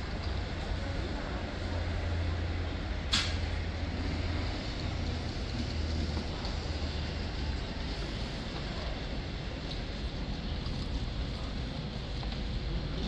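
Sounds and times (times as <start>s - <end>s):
distant train approaching: 0.0s - 13.0s
railway station rumble and hiss: 0.0s - 13.0s.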